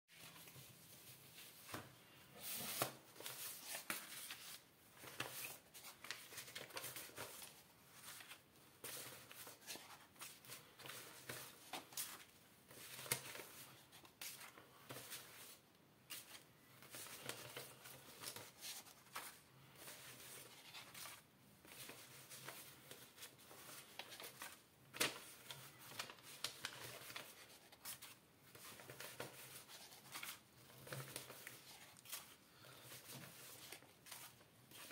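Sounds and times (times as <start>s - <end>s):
banknotes rustling and flicking: 0.2s - 34.9s.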